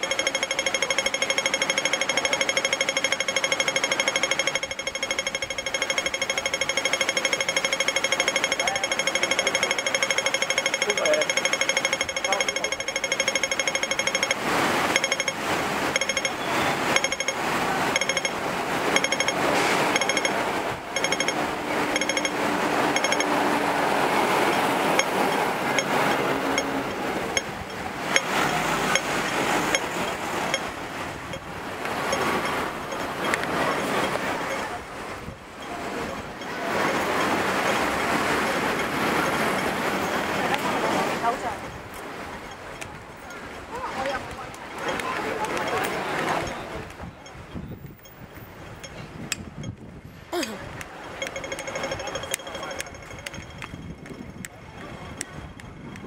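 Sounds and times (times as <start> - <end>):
crossing signal ticking: 0.0 - 56.0
street traffic: 0.0 - 56.0.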